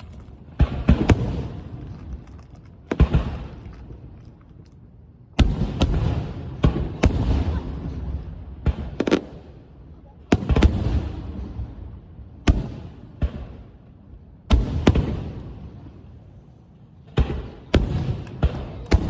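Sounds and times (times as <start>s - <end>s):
fireworks exploding: 0.0s - 4.6s, 5.4s - 13.8s, 14.5s - 16.2s, 17.0s - 19.0s.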